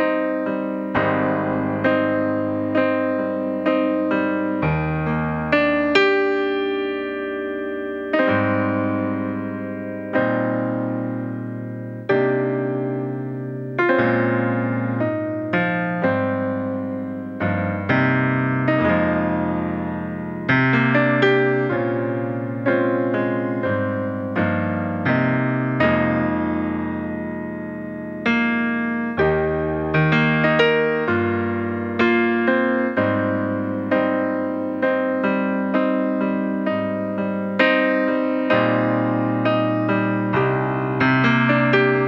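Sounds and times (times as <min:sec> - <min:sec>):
solo piano music: 0:00.0 - 0:42.0.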